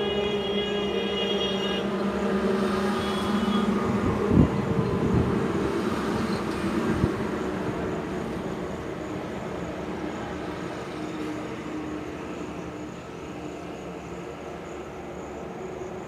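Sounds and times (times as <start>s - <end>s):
heavy truck engines droning: 0.0s - 16.0s.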